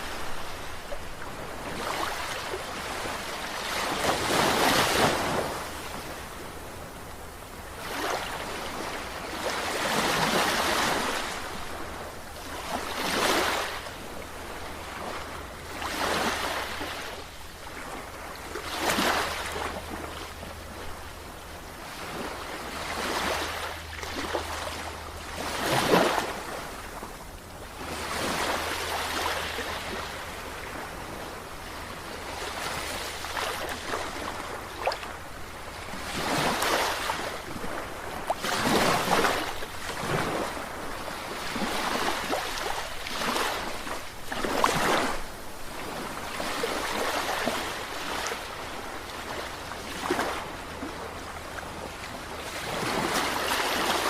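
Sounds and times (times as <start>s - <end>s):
sea waves washing in: 0.0s - 54.0s.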